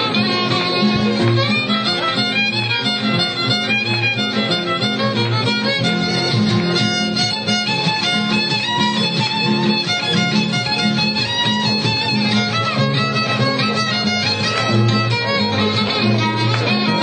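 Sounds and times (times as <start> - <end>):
strummed acoustic guitars: 0.0 - 17.0
violin melody: 0.0 - 17.0.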